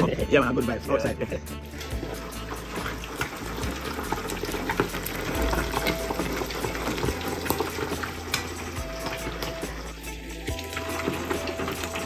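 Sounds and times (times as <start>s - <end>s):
oil bubbling and crackling: 1.2s - 12.0s.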